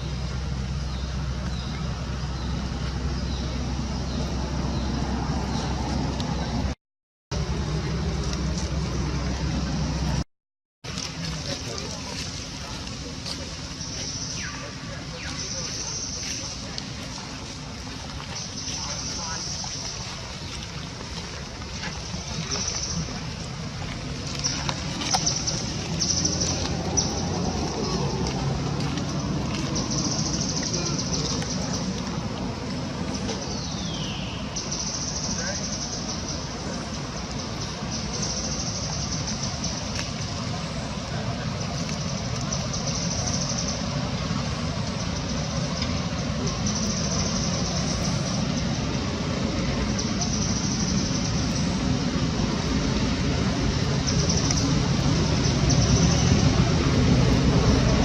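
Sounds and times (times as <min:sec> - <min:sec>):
low rumble: 0:00.0 - 0:10.2, 0:10.9 - 0:58.0.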